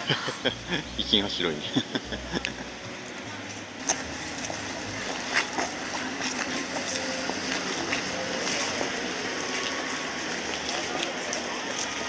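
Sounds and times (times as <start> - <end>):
murmur of many voices: 0.0 - 12.0.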